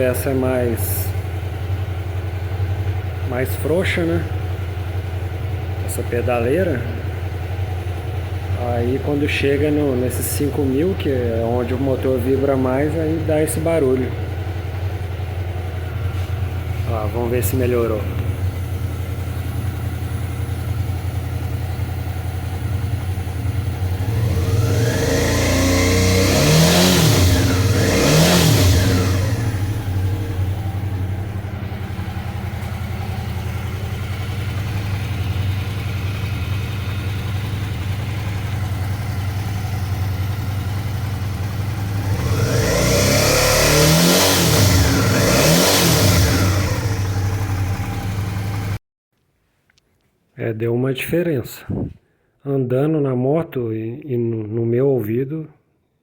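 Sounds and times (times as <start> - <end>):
motorcycle engine idling and revving: 0.0 - 48.8.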